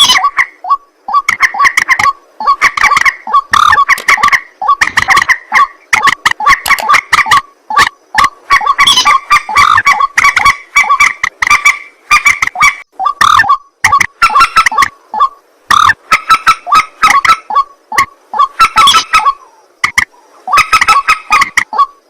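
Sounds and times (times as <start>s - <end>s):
water birds calling harshly: 0.0s - 22.0s.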